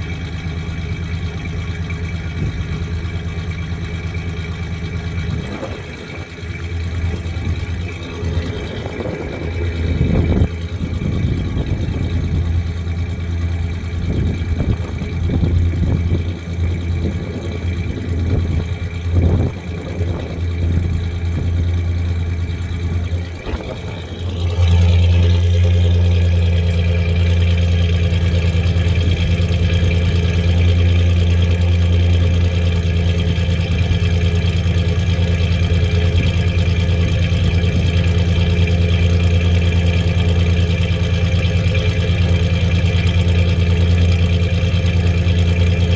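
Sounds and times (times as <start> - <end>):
car engine idling unevenly: 0.0 - 45.9
engine knocks: 0.0 - 45.9.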